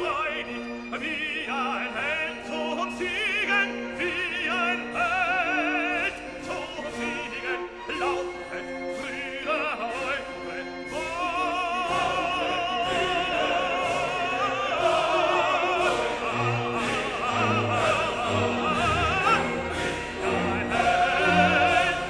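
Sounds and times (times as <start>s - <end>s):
operatic voice singing: 0.0s - 22.0s
sustained orchestral accompaniment: 0.0s - 22.0s.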